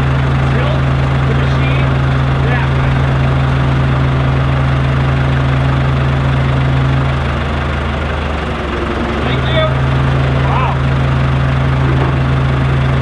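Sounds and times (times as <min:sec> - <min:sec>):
engine idling with deep hum: 0:00.0 - 0:13.0.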